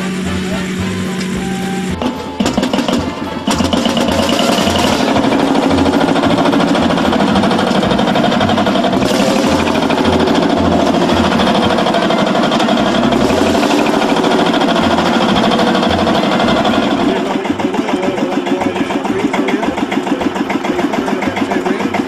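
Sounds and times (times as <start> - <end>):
engine running with rapid beat: 0.0 - 22.0.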